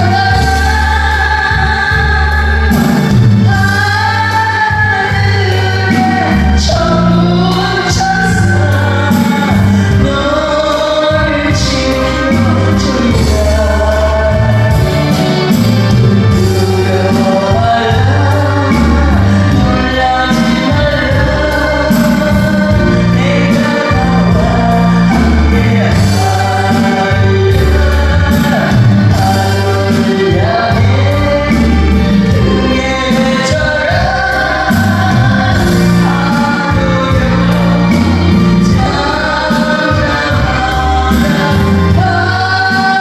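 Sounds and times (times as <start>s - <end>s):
instrumental accompaniment: 0.0s - 43.0s
person singing worship song: 0.0s - 43.0s.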